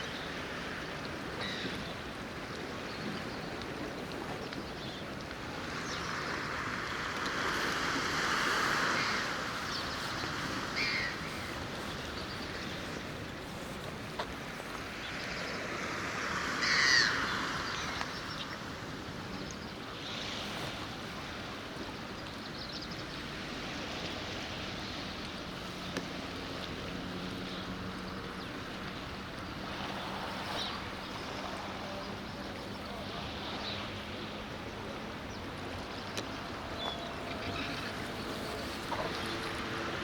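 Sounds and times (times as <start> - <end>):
moving water: 0.0 - 40.0.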